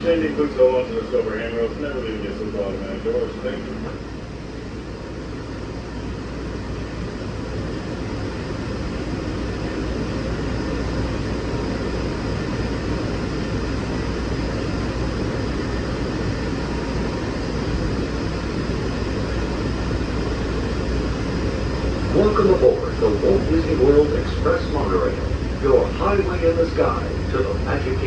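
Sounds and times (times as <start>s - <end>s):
monorail running noise: 0.0s - 28.0s.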